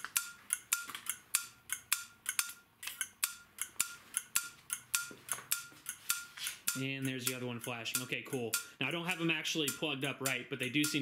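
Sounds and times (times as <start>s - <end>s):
turn signal relay clicking: 0.0s - 11.0s.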